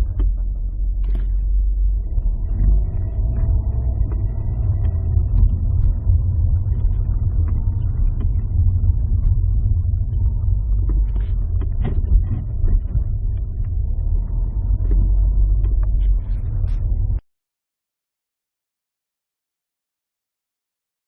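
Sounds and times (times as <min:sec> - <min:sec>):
car engine low rumble: 0:00.0 - 0:17.2.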